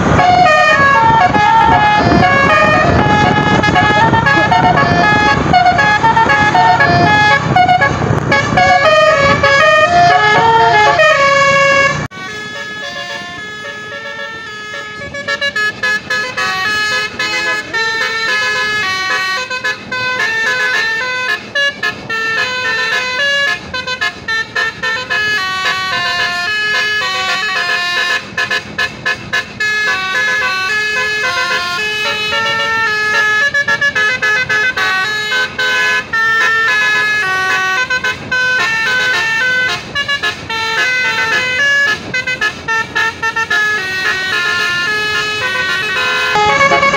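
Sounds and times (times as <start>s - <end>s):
musical bus air horn melody: 0.0s - 46.9s.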